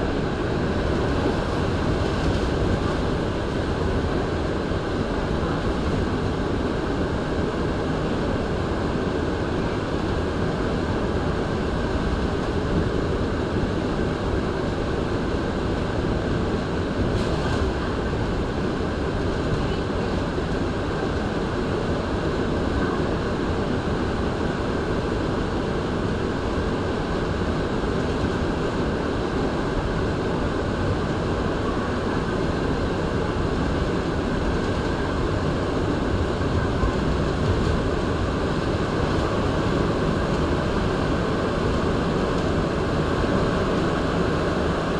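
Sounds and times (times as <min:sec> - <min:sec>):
train rumbling through tunnel: 0:00.0 - 0:44.9.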